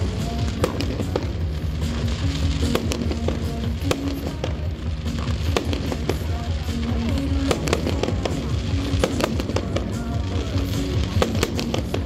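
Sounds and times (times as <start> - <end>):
fireworks bursting and crackling: 0.0 - 12.0
music with pulsing bass: 0.0 - 12.0.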